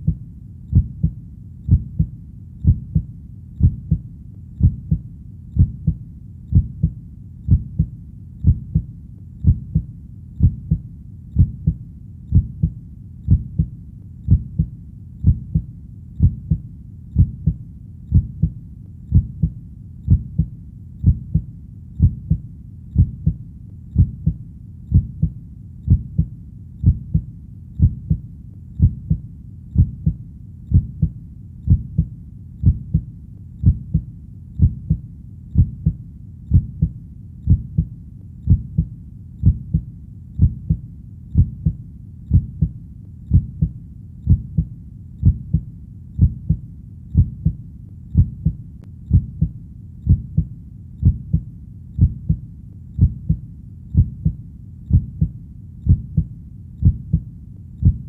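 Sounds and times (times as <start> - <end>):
heartbeat thumps: 0.0 - 29.2, 29.8 - 58.0
low steady rumble: 0.0 - 58.0.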